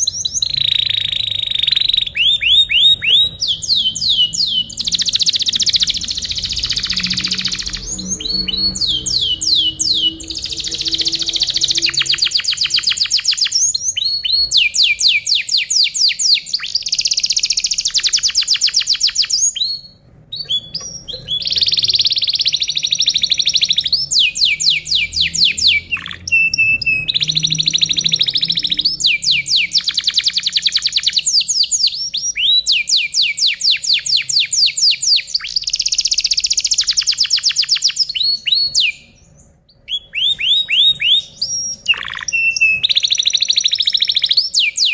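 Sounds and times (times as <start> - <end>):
canary singing trills: 0.0 - 44.9.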